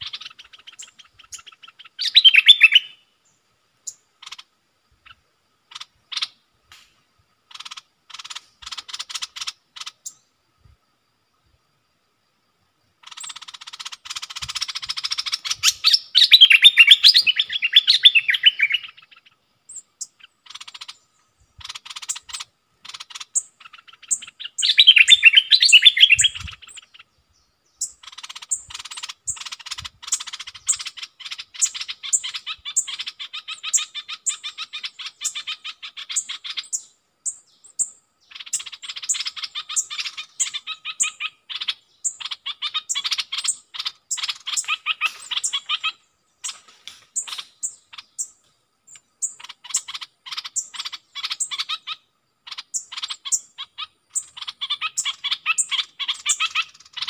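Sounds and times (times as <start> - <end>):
bulbuls singing and chattering: 0.0 - 3.0, 3.8 - 10.2, 13.0 - 57.0.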